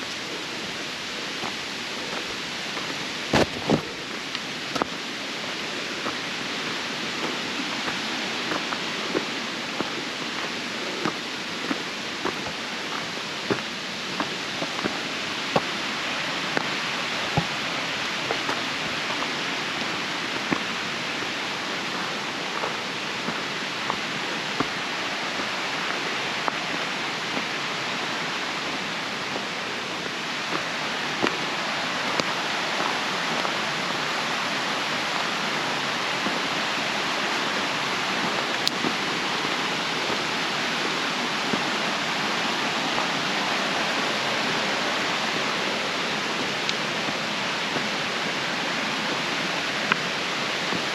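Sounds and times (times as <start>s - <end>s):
steady rushing noise: 0.0s - 50.9s.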